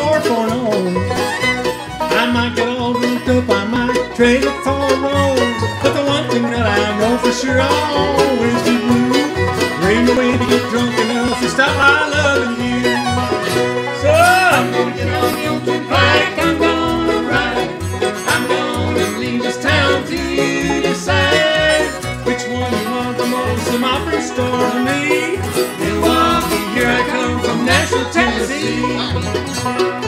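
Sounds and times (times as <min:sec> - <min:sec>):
bluegrass band playing: 0:00.0 - 0:30.0
upright bass: 0:00.0 - 0:30.0.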